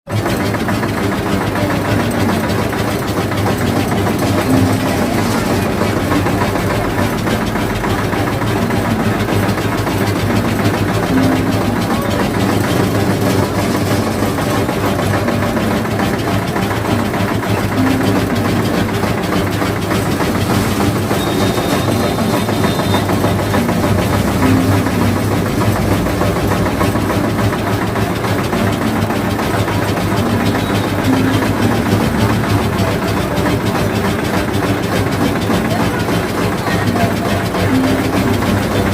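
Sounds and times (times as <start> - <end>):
juice machine mechanical drone: 0.0 - 38.9.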